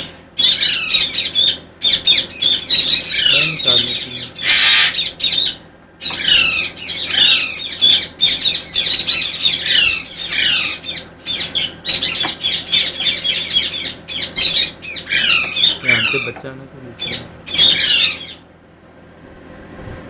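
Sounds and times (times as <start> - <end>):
birds squawking harshly: 0.0 - 18.8.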